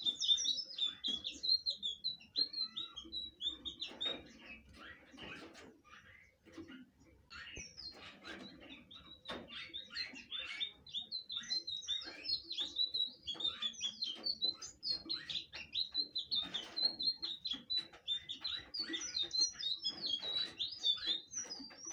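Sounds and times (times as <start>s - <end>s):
bird twittering song: 0.0s - 21.9s.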